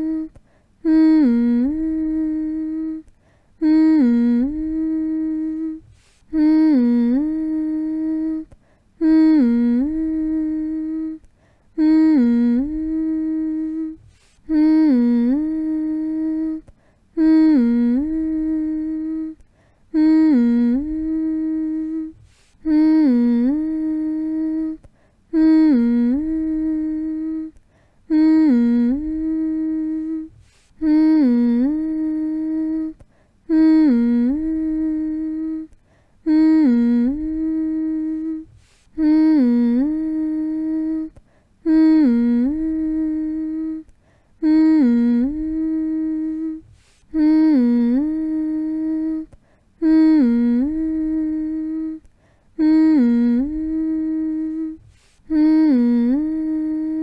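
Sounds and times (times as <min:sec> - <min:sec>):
person humming: 0:00.0 - 0:57.0.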